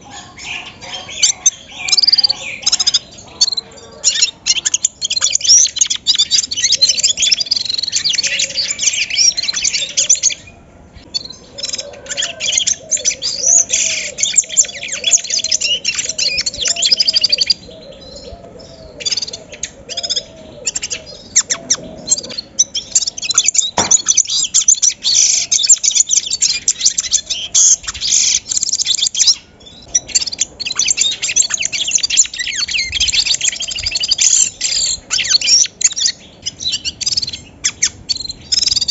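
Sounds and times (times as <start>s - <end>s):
flock of birds chirping and singing: 0.0s - 38.9s
lower repeated bird call: 0.0s - 38.9s.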